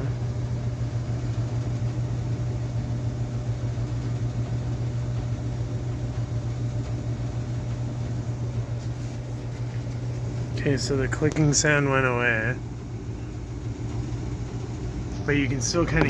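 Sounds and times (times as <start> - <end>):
furnace humming: 0.0 - 16.0.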